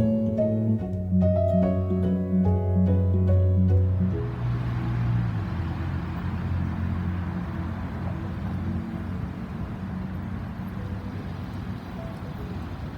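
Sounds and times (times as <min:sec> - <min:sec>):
engine droning: 0:00.0 - 0:12.9.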